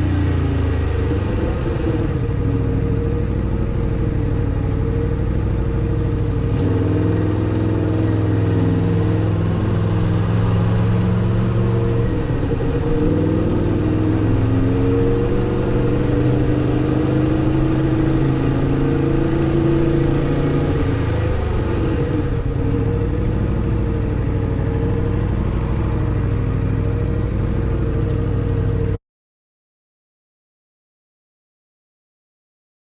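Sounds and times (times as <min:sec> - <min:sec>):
motorcycle engine at low revs: 0:00.0 - 0:29.0.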